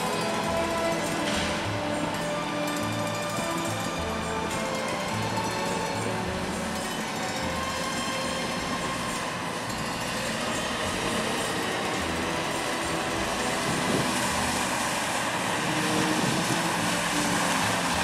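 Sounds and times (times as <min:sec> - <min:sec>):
boat engine running: 0:00.0 - 0:18.0
steady rushing noise: 0:00.0 - 0:18.0.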